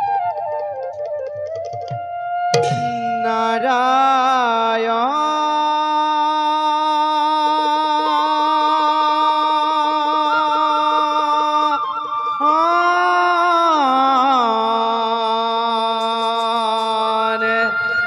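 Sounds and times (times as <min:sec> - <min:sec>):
man singing devotional song: 0:02.8 - 0:18.0.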